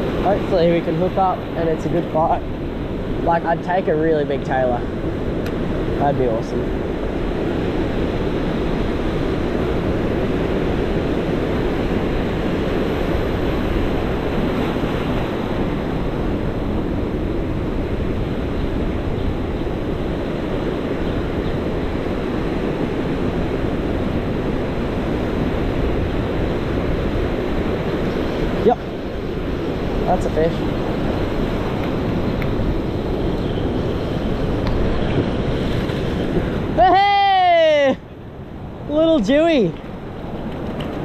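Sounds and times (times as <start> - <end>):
ocean surf breaking on rocks: 0.0 - 41.0
wind on microphone: 0.0 - 41.0.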